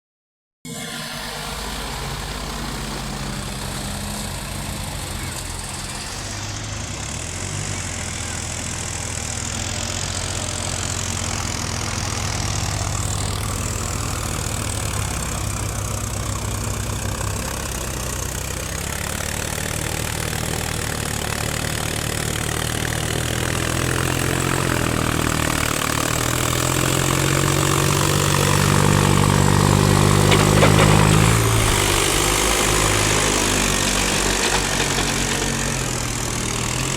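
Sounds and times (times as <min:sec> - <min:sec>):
tractor engines revving: 0:00.7 - 0:36.9.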